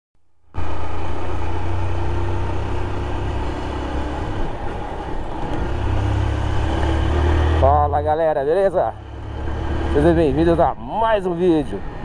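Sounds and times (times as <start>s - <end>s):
motorcycle engine rumbling: 0.6s - 11.1s.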